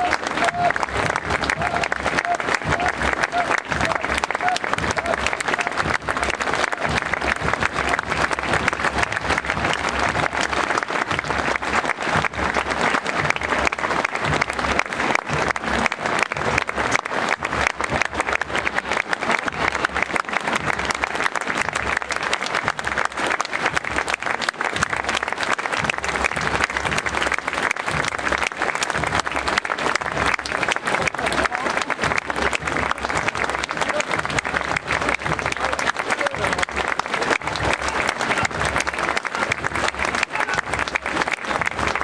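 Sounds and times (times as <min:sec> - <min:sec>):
crowd applauding: 0:00.0 - 0:42.0.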